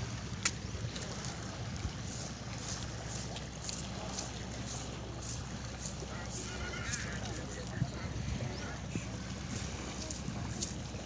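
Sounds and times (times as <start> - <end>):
wind on microphone: 0.0 - 4.1, 4.8 - 11.0.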